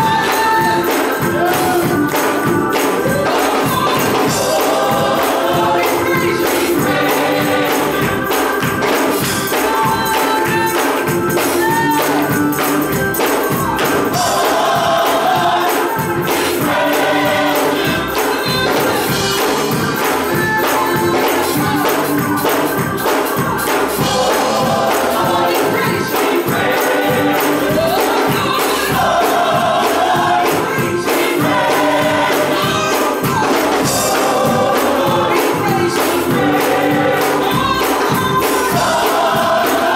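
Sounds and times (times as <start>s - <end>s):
gospel choir singing: 0.0s - 39.9s
tambourine beat: 0.0s - 39.9s.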